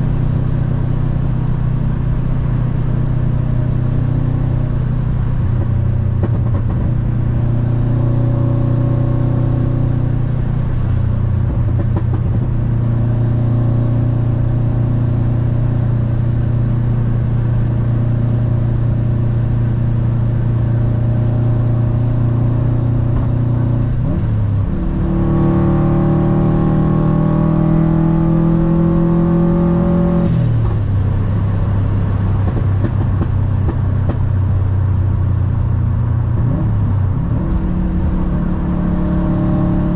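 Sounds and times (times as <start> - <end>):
car engine drone from inside cabin: 0.0 - 39.9.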